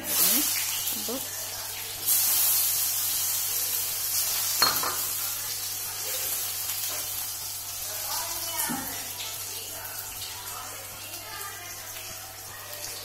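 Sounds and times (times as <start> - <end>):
oil sizzling: 0.0 - 13.0.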